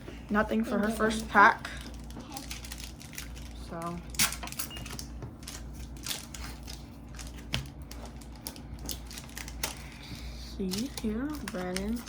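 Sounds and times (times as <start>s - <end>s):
foil pack rustling: 0.9s - 12.0s.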